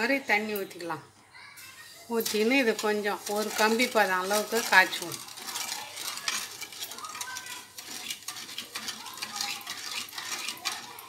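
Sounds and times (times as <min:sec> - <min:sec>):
spatula scraping metal pan: 0:01.7 - 0:11.0.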